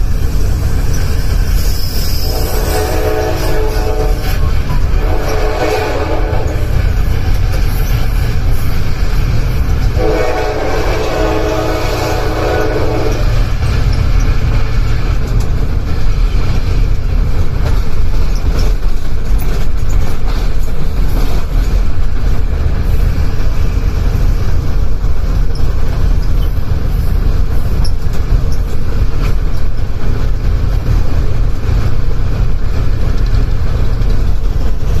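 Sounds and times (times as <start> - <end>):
locomotive engine and wheels rumbling: 0.0 - 35.0.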